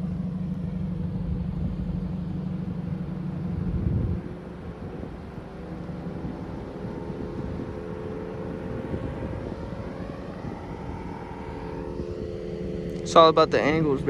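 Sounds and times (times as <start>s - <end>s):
vehicle engine running steadily: 0.0s - 14.0s.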